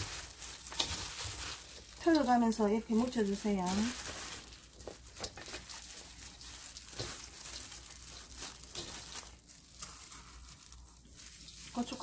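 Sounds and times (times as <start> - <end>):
chives rustling in a bowl: 0.0 - 12.0.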